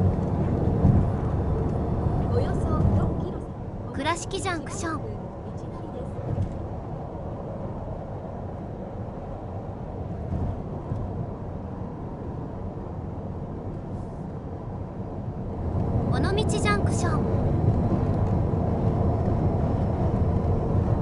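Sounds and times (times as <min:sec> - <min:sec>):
low rumble inside car cabin: 0:00.0 - 0:21.0
road and tyre noise: 0:00.0 - 0:21.0.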